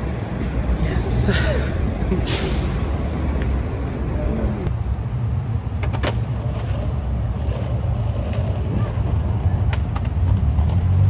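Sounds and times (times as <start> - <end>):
street noise rumble: 0.0 - 11.0.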